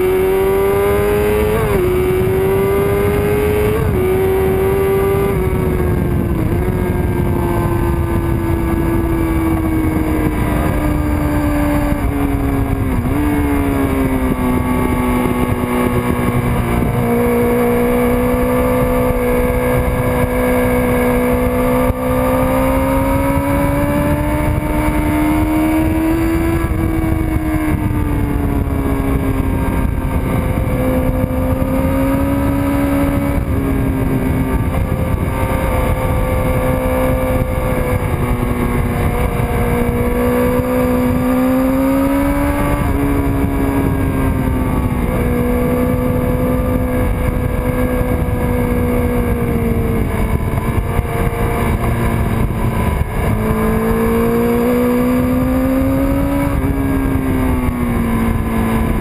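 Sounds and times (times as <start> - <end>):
motorcycle engine at high revs: 0.0 - 59.0
wind rush: 0.0 - 59.0.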